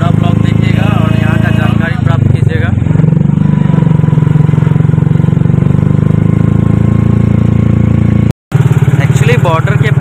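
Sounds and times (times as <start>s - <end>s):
auto-rickshaw engine chugging: 0.0s - 10.0s.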